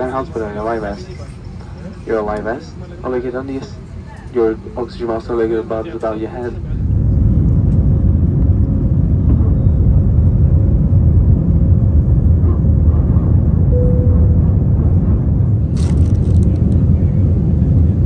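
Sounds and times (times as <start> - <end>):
airliner cabin engine rumble: 0.0 - 18.0.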